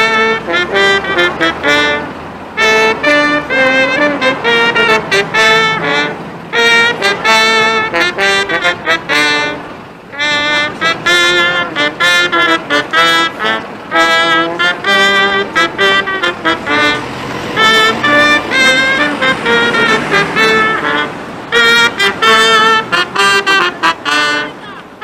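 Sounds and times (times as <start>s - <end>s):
brass band playing: 0.0s - 25.0s.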